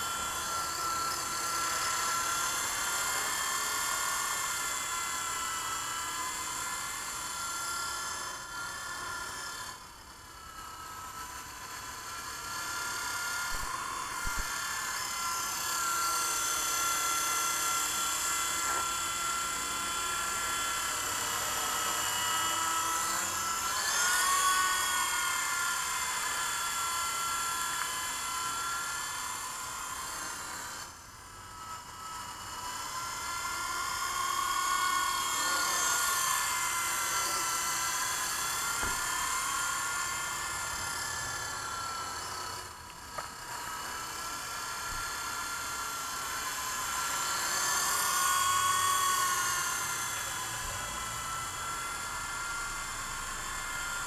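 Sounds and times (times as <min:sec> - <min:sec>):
toy helicopter rotor whine: 0:00.0 - 0:54.0.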